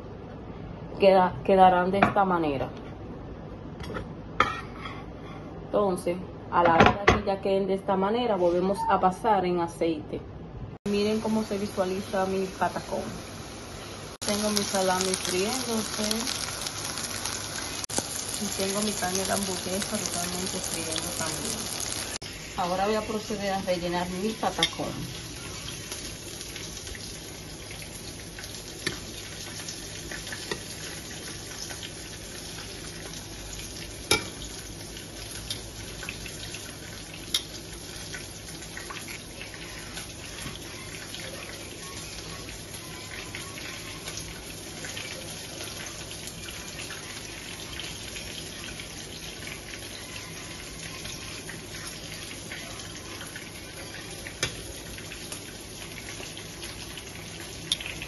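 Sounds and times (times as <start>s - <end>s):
food sizzling in oil: 10.9s - 58.0s.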